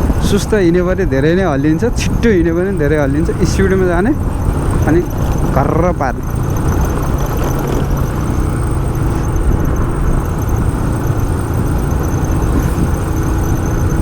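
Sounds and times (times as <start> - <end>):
motorcycle engine running: 0.0 - 14.0
wind on microphone: 0.0 - 14.0.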